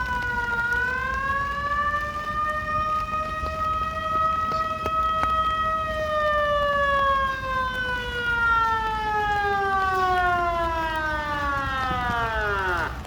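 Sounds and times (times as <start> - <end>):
warning siren winding down: 0.0 - 13.0.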